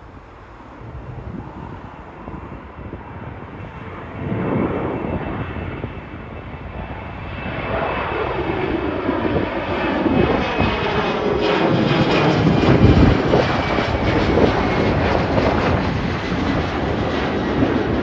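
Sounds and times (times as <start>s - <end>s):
jet airliner engines: 0.0s - 18.0s.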